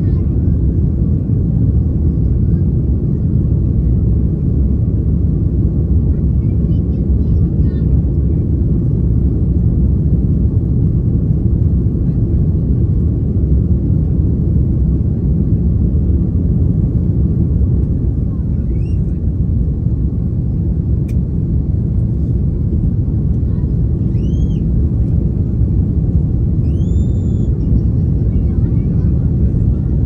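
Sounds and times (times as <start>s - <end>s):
airplane cabin engine roar: 0.0s - 30.0s.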